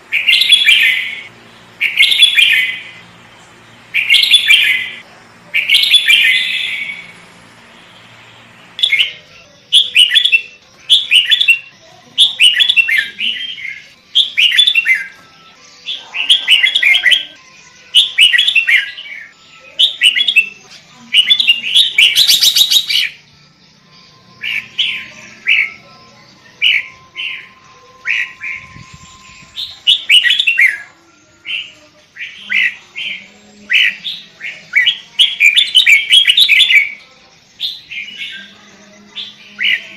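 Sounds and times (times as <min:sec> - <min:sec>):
bird singing chirping phrases: 0:00.0 - 0:39.9.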